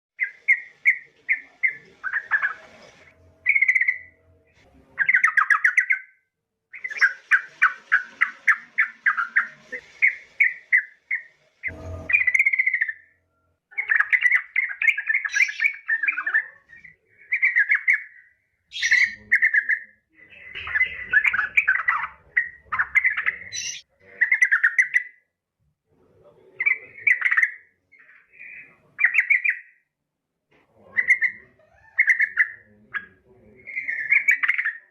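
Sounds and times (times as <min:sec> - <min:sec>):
bird chirping: 0:00.2 - 0:25.2, 0:26.4 - 0:29.9, 0:30.8 - 0:34.9.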